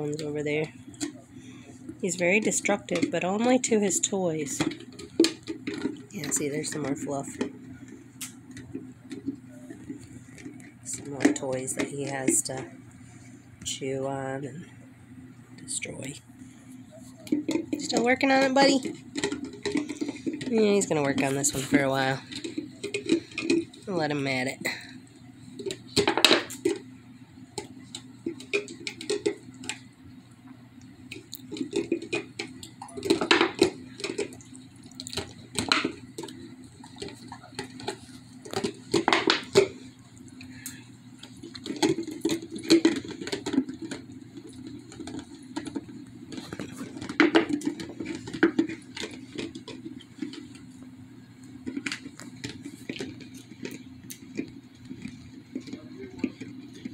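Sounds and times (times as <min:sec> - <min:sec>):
dog licking and gnawing plastic jar: 0:01.9 - 0:12.7, 0:17.0 - 0:24.8, 0:27.6 - 0:29.9, 0:31.1 - 0:56.9.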